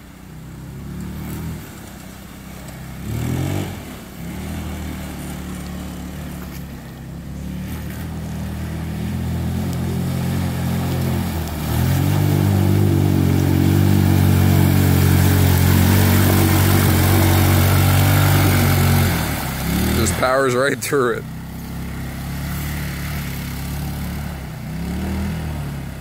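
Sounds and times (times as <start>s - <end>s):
go-kart engine running: 0.0s - 26.0s.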